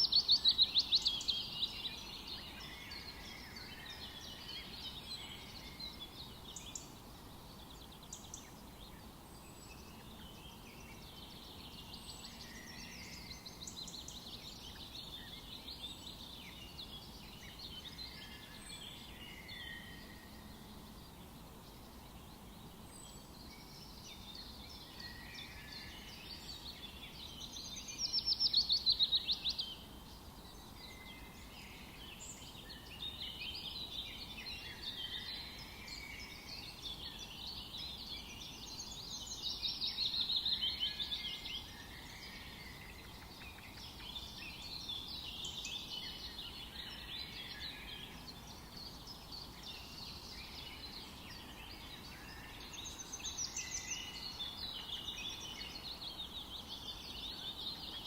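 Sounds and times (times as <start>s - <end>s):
wild birds singing and chirping: 0.0s - 58.0s.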